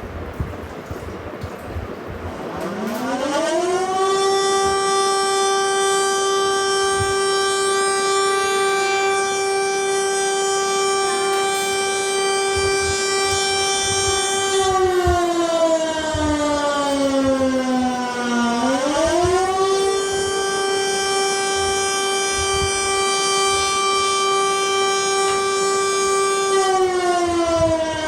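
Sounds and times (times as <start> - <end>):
civil defense siren winding: 2.2 - 28.0.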